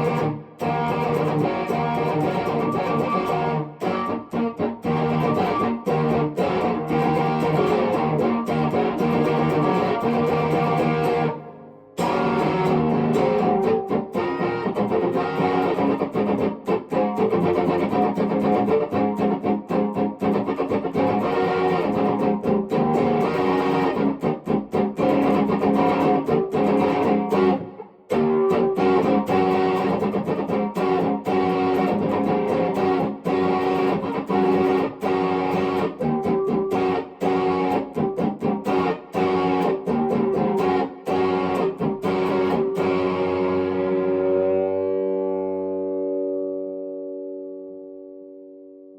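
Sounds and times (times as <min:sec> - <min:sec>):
electric guitar through amplifier: 0:00.0 - 0:48.9.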